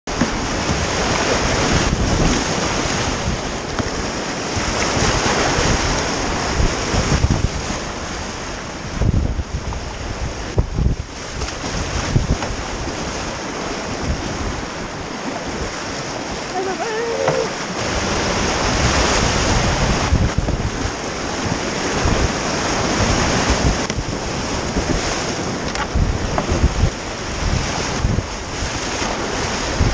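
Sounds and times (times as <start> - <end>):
whitewater rushing: 0.1 - 29.9
wind buffeting microphone: 0.1 - 29.9.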